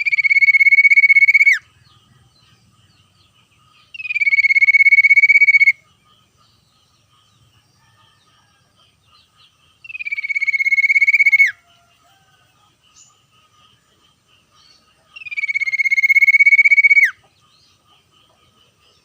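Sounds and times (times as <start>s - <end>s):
other birds chirping: 0.0s - 19.0s.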